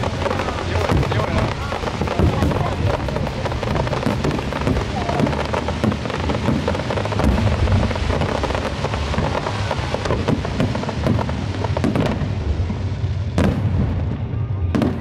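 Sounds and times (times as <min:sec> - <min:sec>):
crackle of sparks: 0:00.0 - 0:15.0
fireworks booming: 0:00.0 - 0:15.0.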